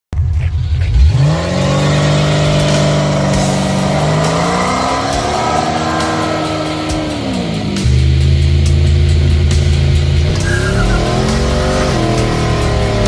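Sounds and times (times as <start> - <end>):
car engine revving: 0.2 - 13.0.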